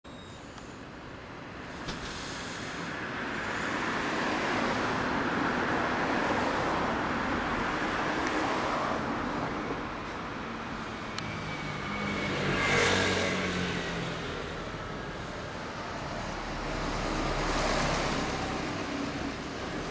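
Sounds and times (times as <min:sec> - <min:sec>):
vehicle passing by: 0:01.8 - 0:19.9.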